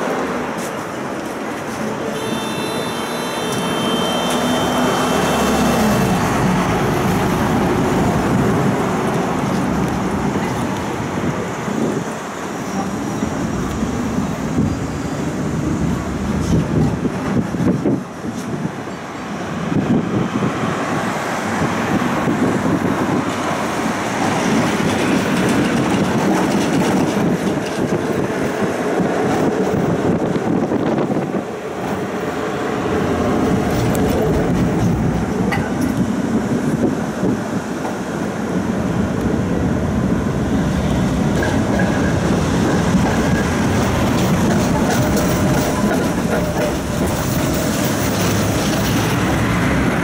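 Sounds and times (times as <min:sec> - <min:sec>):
tram wheels rumbling on rails: 0:00.0 - 0:50.0.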